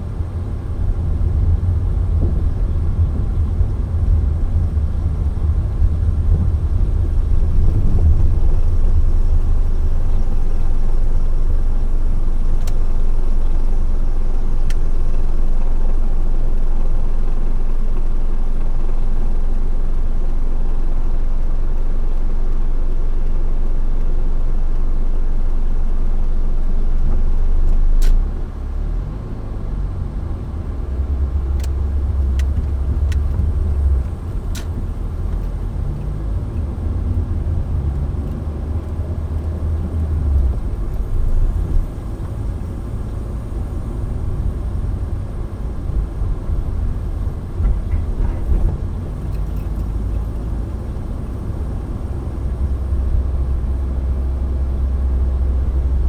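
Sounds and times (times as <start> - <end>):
car road rumble from inside: 0.0 - 56.0.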